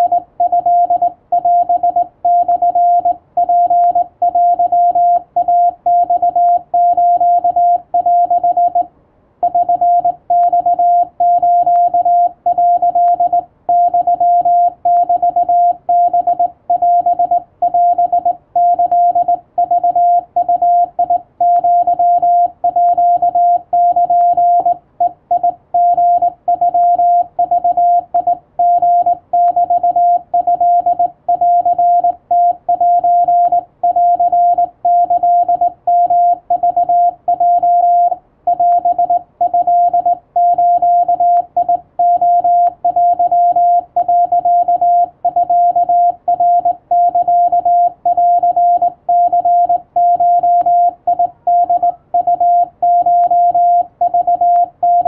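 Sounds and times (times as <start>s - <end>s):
morse code tone: 0.0s - 55.0s.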